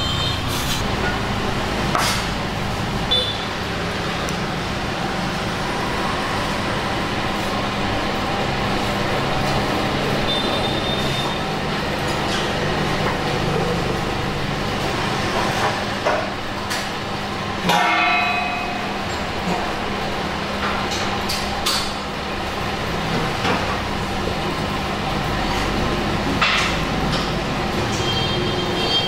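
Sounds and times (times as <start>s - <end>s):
restaurant rumble and hum: 0.0s - 29.0s.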